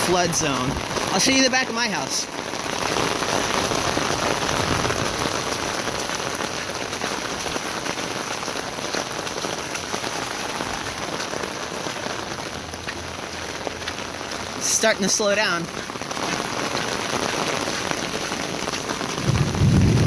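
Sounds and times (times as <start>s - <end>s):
heavy rain pattering: 0.0s - 20.0s.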